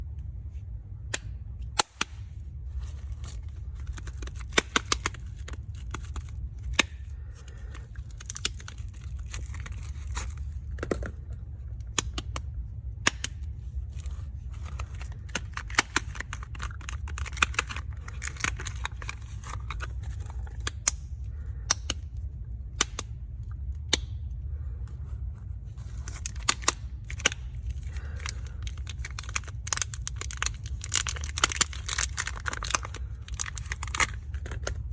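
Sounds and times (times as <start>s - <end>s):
steady low hum: 0.0s - 34.9s
packaging crackling and crinkling: 1.8s - 12.5s, 13.1s - 22.2s, 24.9s - 34.9s.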